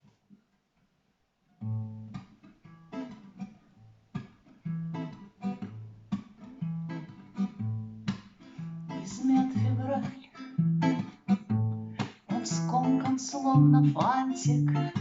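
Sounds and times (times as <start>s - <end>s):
acoustic guitar plucked and strummed: 1.6s - 15.0s.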